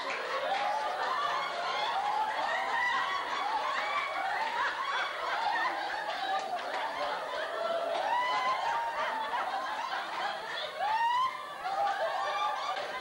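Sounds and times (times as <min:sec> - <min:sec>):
audience laughing: 0:00.0 - 0:13.0
people chattering: 0:00.0 - 0:13.0.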